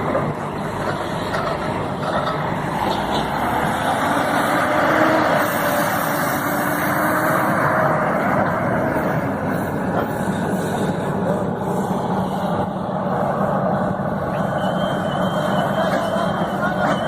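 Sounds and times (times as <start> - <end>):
diesel earthmoving machinery: 0.0 - 17.0.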